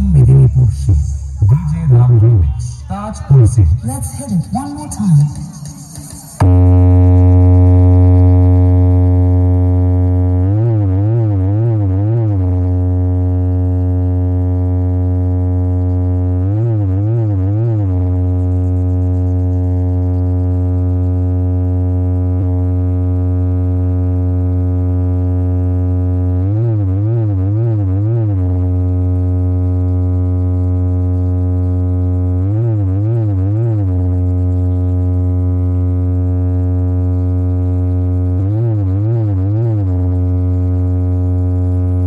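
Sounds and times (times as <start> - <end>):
synthesized sub-bass drone: 0.0 - 42.0.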